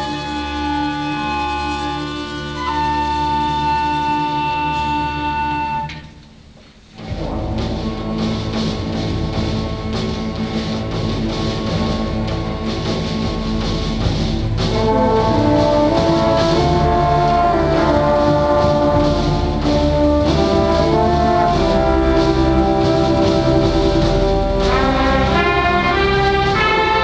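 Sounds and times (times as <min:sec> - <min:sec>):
orchestra with sustained brass: 0:00.0 - 0:06.2, 0:07.0 - 0:27.0.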